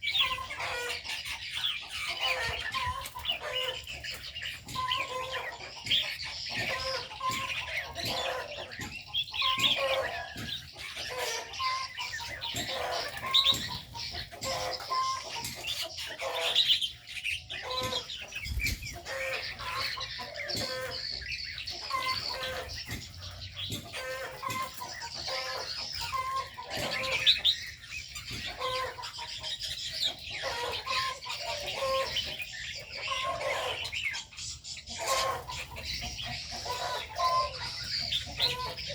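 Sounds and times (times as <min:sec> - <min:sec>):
high bird chirps: 0:00.0 - 0:38.9.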